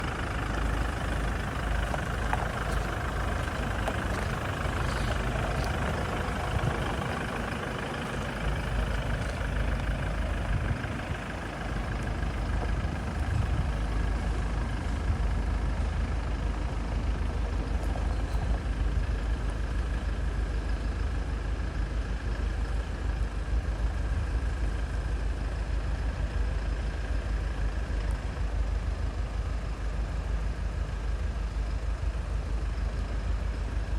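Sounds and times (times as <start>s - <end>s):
pickup engine rumbling: 0.0s - 33.9s.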